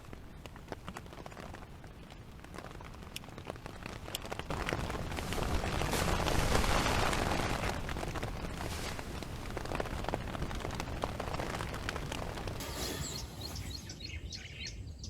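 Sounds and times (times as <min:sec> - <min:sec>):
rain falling on a tent: 0:00.0 - 0:12.7.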